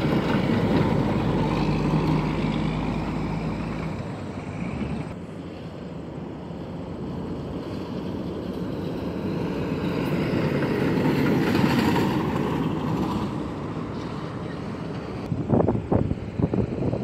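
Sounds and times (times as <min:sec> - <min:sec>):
truck passing by: 0:00.0 - 0:17.0.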